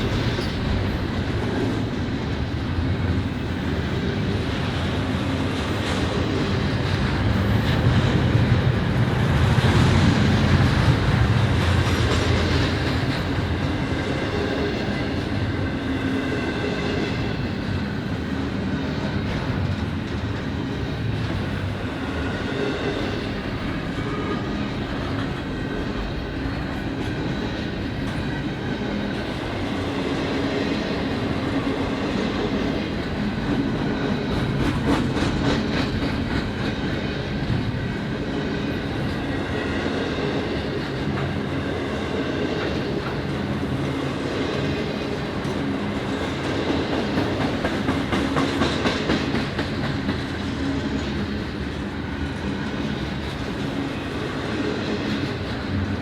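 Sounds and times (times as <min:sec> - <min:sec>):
train wheels clattering on track: 0:00.0 - 0:56.0.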